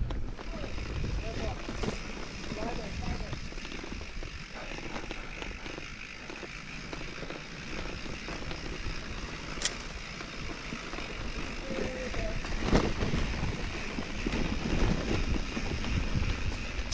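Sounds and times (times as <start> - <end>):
bike knocks and rattles: 0.0 - 16.9
bike tyres on dirt trail: 0.0 - 16.9.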